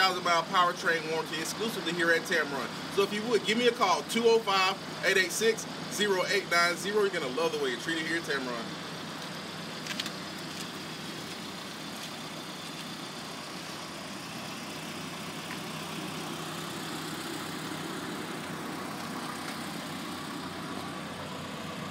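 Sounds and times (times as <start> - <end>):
vehicle rumble: 0.0 - 21.9.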